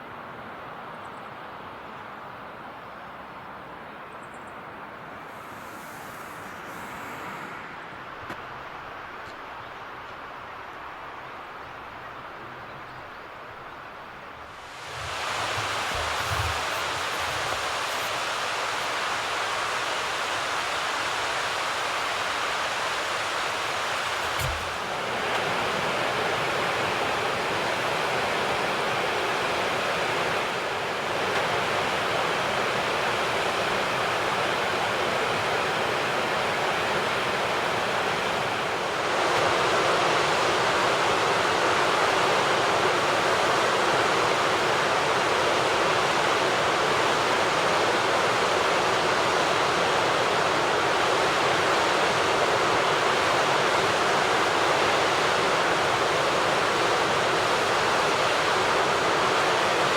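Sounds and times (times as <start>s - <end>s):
flowing water rushing: 4.9s - 9.2s, 13.8s - 59.9s.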